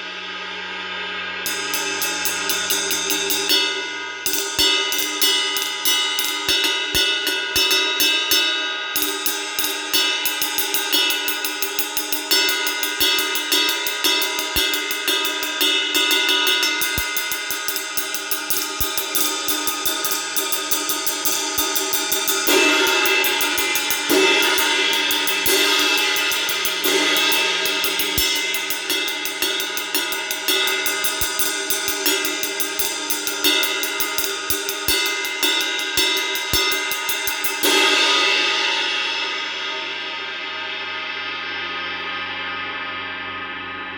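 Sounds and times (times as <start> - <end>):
cymbal accents: 0.0 - 42.8
drum kit groove with cymbals: 1.5 - 40.4.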